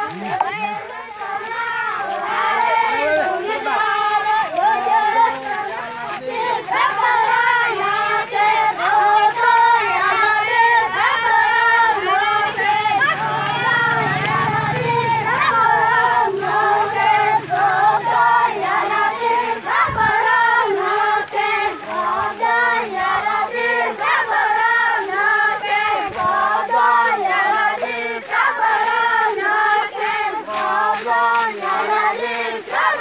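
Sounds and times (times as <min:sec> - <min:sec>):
children chanting in unison: 0:00.0 - 0:33.0.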